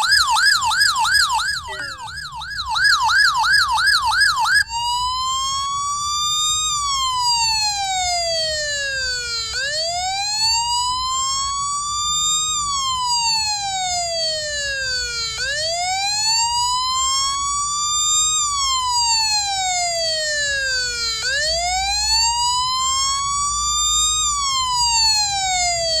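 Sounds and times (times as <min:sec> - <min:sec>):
police siren wailing: 0:00.0 - 0:05.8, 0:06.6 - 0:26.0.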